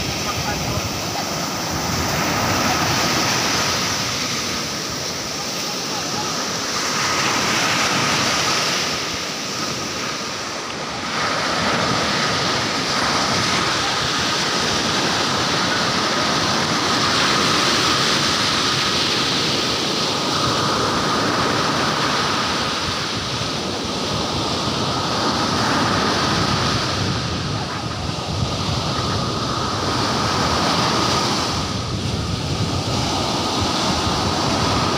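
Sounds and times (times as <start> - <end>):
waves breaking on beach: 0.0 - 34.9.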